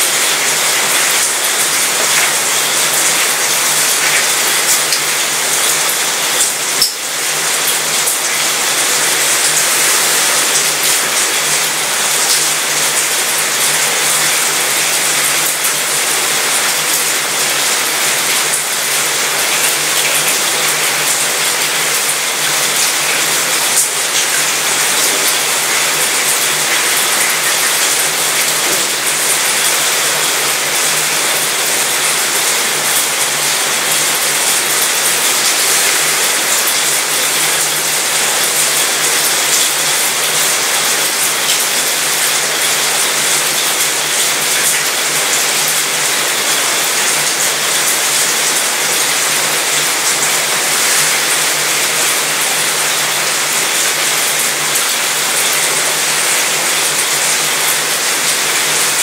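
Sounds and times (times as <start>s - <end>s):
rain pattering on metal: 0.0s - 59.0s.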